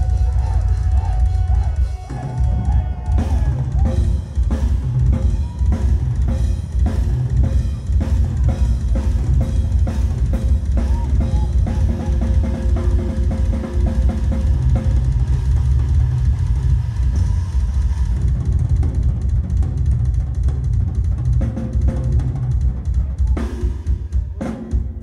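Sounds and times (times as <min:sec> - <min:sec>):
fast bass drum: 0:00.0 - 0:25.0.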